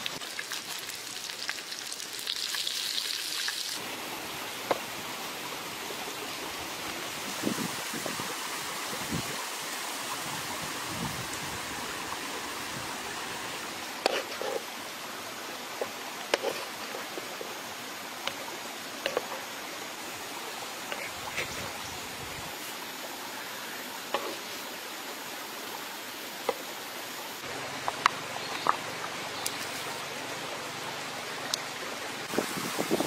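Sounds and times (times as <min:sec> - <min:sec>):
stream flowing: 0:00.0 - 0:33.0.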